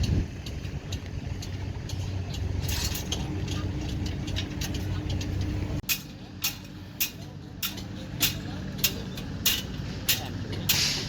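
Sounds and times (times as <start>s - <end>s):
heavy machinery diesel engine: 0.0s - 11.0s.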